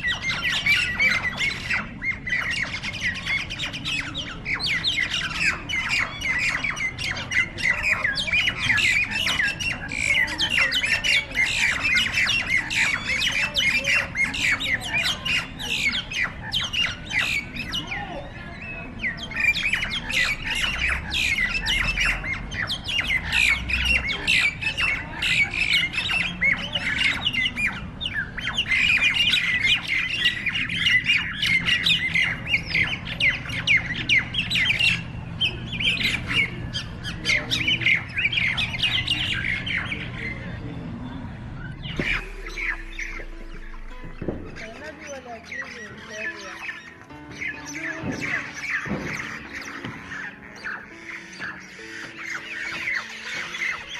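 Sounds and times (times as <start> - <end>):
mynas squawking: 0.0 - 53.9.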